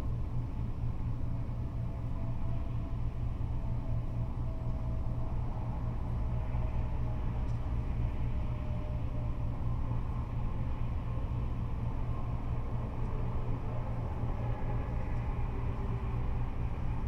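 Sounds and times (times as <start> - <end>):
freeway traffic rumble: 0.0 - 17.0.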